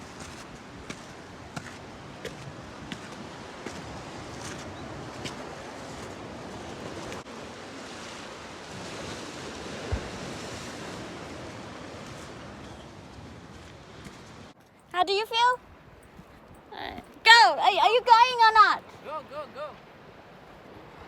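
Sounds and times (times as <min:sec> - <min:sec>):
sea surf washing on shore: 0:00.0 - 0:14.6, 0:17.2 - 0:21.0.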